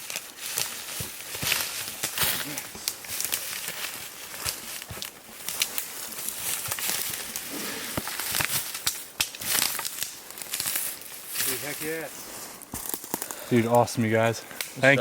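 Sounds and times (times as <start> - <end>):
twigs snapping: 0.0 - 11.9, 12.6 - 13.8
dry brush rustling and crackling: 0.0 - 15.0.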